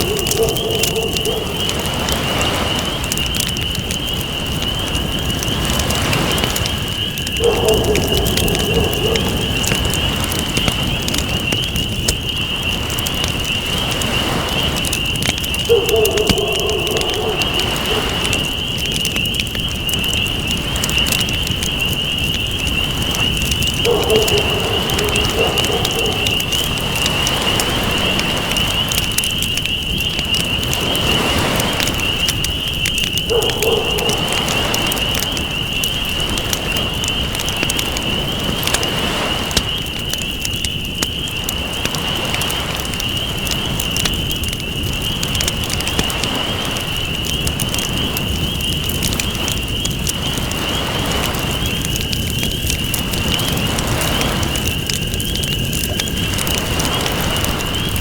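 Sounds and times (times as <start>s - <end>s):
ocean waves: 0.0s - 11.4s, 12.7s - 21.7s, 22.7s - 29.2s, 30.2s - 40.2s, 45.2s - 48.2s, 49.0s - 52.2s, 52.9s - 54.7s, 55.7s - 58.0s
campfire crackling: 0.0s - 58.0s.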